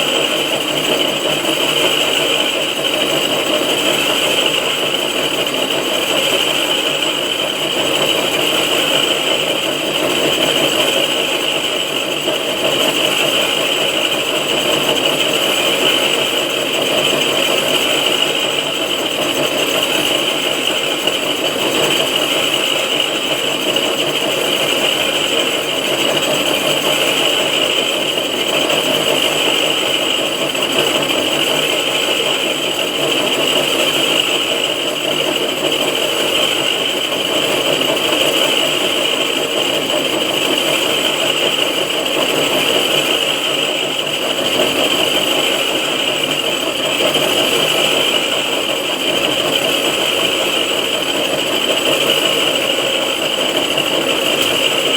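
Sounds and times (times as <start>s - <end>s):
milling machine running: 0.0s - 54.9s.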